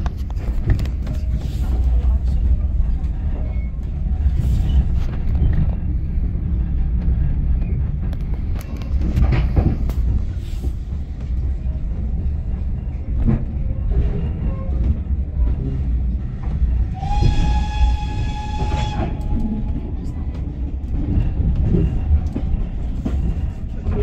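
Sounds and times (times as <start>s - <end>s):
train carriage low rumble: 0.0s - 24.0s.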